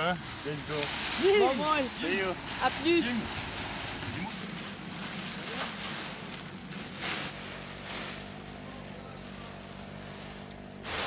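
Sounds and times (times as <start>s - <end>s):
steady low hum: 0.0s - 11.0s
nylon fabric rustling: 0.9s - 11.0s.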